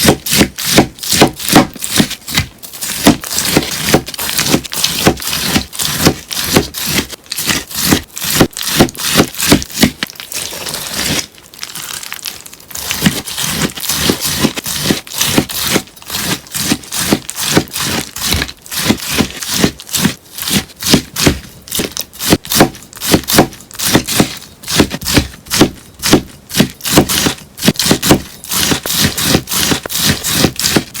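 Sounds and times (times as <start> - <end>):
scissors snipping sponge: 0.0 - 11.3, 12.8 - 31.0.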